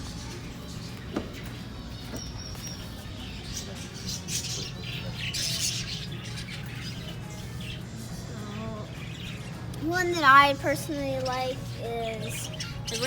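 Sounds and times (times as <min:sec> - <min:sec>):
budgies chirping and chattering: 0:00.0 - 0:13.0.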